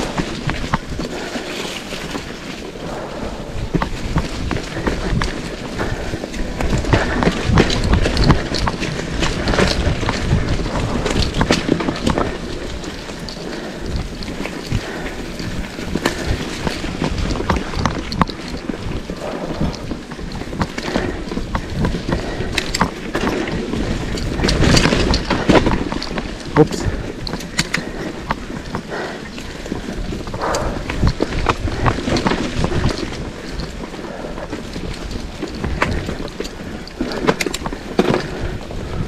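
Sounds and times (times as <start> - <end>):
bike rattling over rough ground: 0.0 - 39.0
wind buffeting microphone: 0.0 - 39.0.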